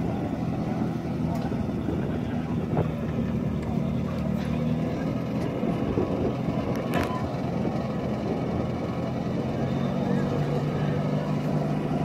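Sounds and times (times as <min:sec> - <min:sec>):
backhoe working: 0:00.0 - 0:12.0
jeep engine running: 0:00.0 - 0:12.0.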